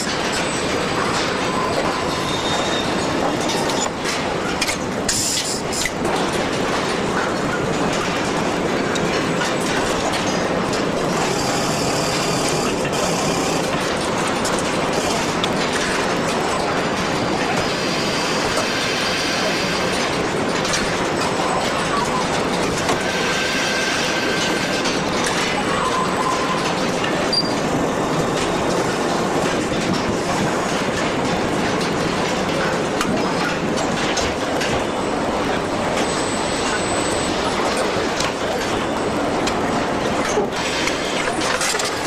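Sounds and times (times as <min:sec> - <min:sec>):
assembly line machinery din: 0:00.0 - 0:42.0
machinery clicks: 0:00.0 - 0:42.0.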